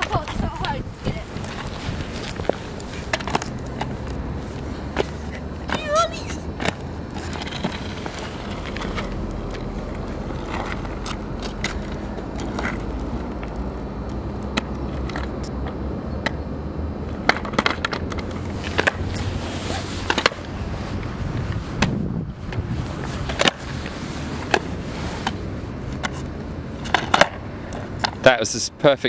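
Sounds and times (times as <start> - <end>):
skateboard clacking on asphalt: 0.0 - 16.4, 17.0 - 28.3
steady low rumble: 0.0 - 28.5.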